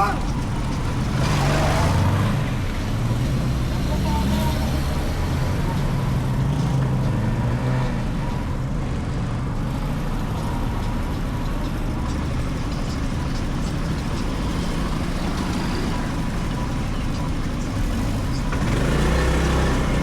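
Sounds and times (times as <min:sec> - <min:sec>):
motorcycle engine hum: 0:00.0 - 0:20.0
road and wind noise: 0:00.0 - 0:20.0.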